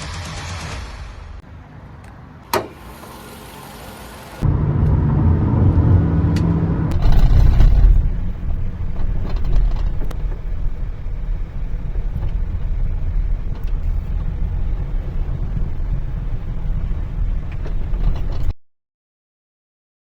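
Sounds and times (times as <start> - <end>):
car road and engine rumble: 0.0 - 18.5.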